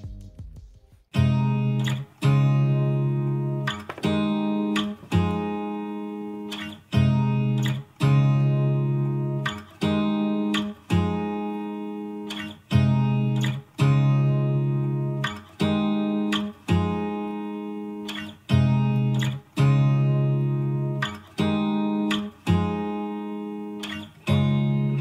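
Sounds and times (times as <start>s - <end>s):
acoustic guitar strumming chords: 1.2s - 25.0s.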